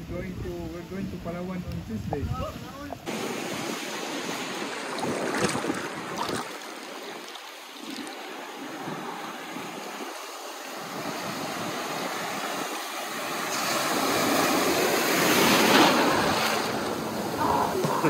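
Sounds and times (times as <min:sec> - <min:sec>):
ocean surf washing: 0:00.0 - 0:18.0
wind on microphone: 0:00.0 - 0:18.0
breaking whitewater rushing: 0:03.0 - 0:18.0.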